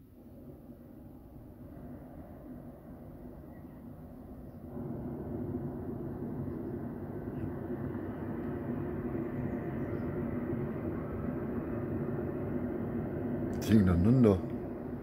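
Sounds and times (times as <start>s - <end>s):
hot-air balloon burner firing: 0.0s - 15.0s.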